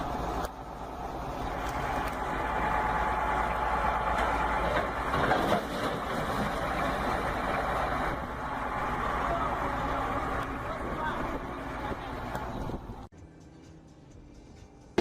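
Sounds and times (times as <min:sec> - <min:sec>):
truck engine running: 0:00.0 - 0:13.1.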